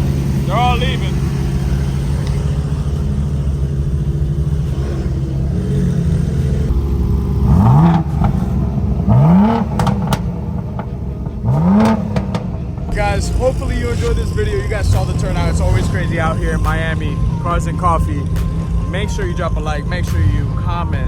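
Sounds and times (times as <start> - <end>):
car engine revving: 0.0 - 21.0
exhaust cracks: 0.0 - 21.0.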